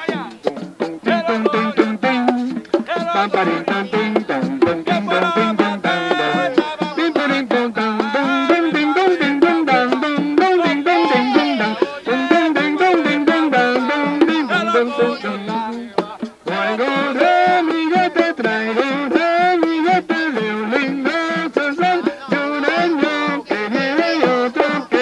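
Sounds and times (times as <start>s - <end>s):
hand-struck frame drums: 0.0s - 25.0s
men singing: 0.0s - 25.0s.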